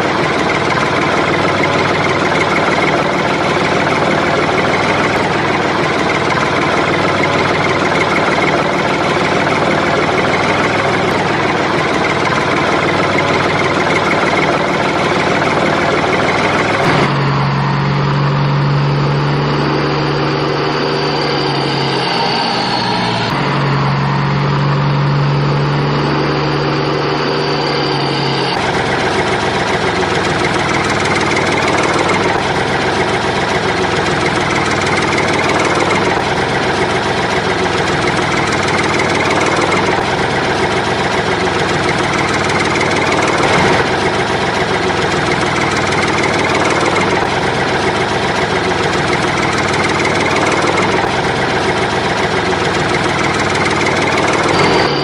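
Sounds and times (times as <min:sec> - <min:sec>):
engine humming: 0:00.0 - 0:55.0
rough noisy engine: 0:00.0 - 0:55.0.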